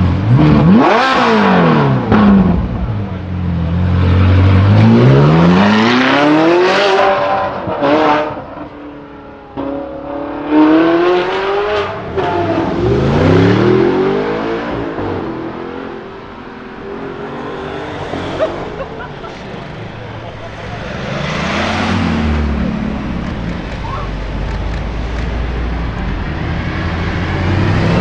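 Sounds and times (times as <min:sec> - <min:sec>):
car engine accelerating hard: 0:00.0 - 0:08.7, 0:09.5 - 0:28.0.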